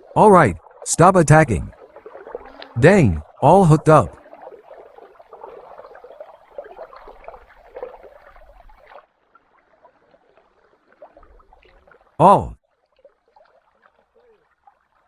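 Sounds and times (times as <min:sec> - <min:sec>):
water splashing and gurgling: 0:00.0 - 0:12.2.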